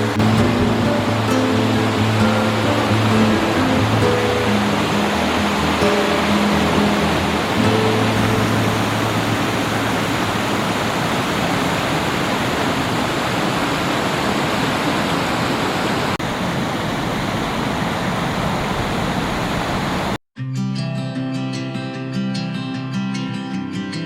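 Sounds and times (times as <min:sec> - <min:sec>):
waterfall rushing: 0:00.0 - 0:20.2.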